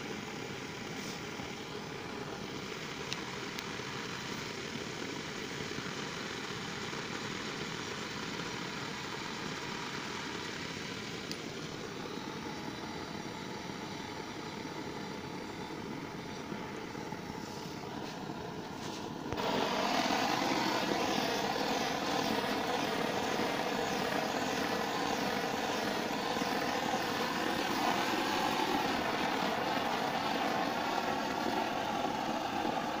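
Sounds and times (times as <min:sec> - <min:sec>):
blowtorch flame roaring: 0:00.3 - 0:33.0.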